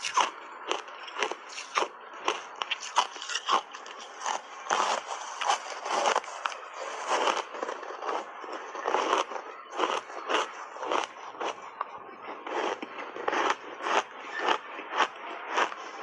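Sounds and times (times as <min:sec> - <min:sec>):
ice crunching while chewed: 0:00.0 - 0:11.6, 0:12.4 - 0:16.0.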